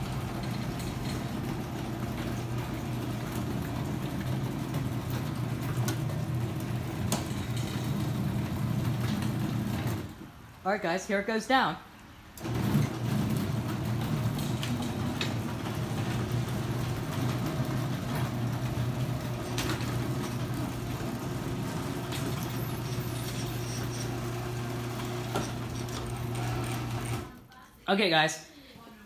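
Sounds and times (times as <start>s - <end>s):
garage door opener motor humming: 0.0s - 10.6s, 12.3s - 27.5s.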